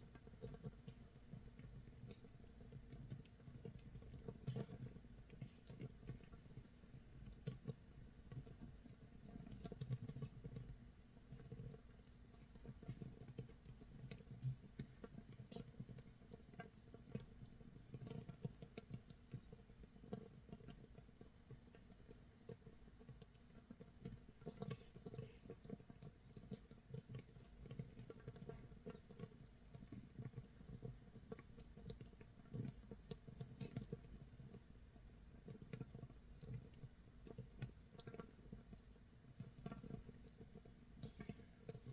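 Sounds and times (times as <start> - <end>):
fermentation bubbles popping: 0.0 - 41.9.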